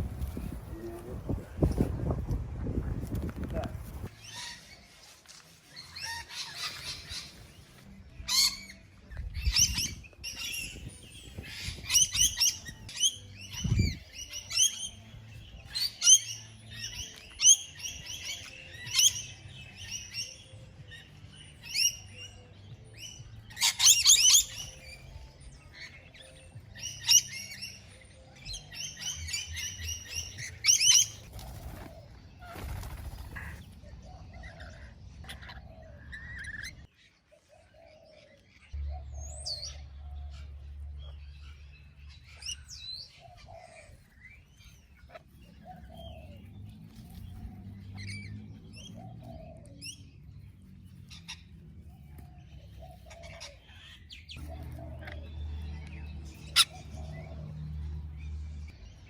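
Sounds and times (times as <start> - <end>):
parrots chirping and squawking: 4.0 - 4.9, 5.7 - 8.8, 9.4 - 20.3, 23.0 - 37.0, 38.5 - 59.0.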